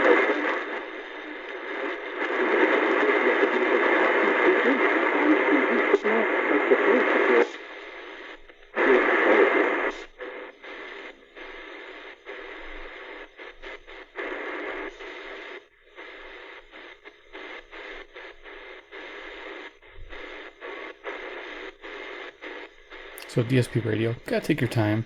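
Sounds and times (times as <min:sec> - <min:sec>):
radio hiss and static: 0:00.0 - 0:25.0
radio station audio burst: 0:00.0 - 0:25.0.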